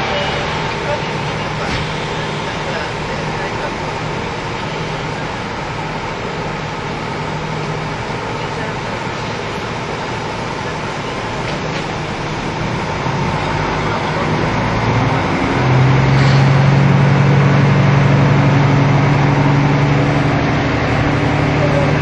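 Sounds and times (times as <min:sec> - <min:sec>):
diesel railcar engine: 0:00.0 - 0:22.0.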